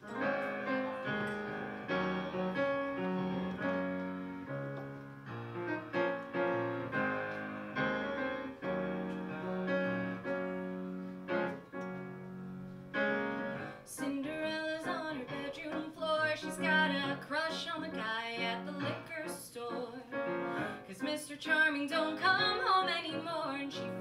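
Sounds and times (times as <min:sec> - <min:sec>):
piano chords ringing: 0:00.0 - 0:24.0.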